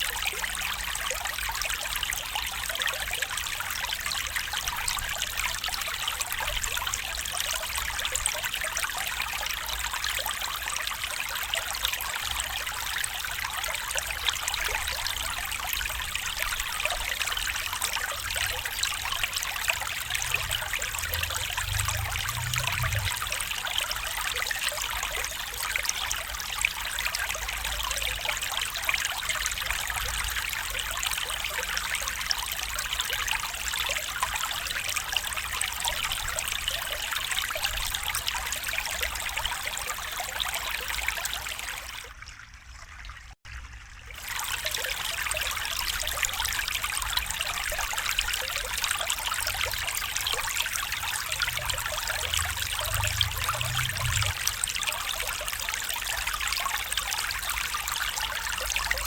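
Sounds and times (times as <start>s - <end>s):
stream water babbling: 0.0s - 59.0s.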